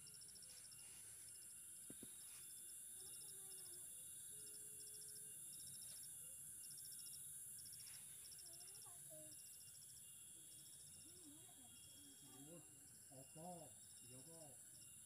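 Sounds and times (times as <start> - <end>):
crickets chirping: 0.0 - 15.0
high-pitched hiss: 0.0 - 15.0.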